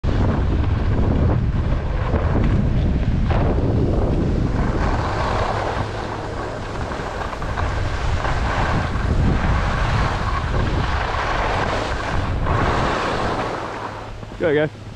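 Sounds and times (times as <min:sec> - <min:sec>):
wind noise on microphone: 0:00.0 - 0:14.9
skis sliding on snow: 0:00.1 - 0:14.7.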